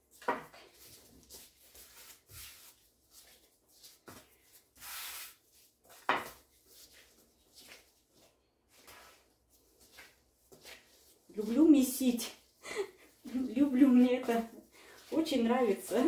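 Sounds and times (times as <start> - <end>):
hands kneading dough on board: 0.0 - 16.0.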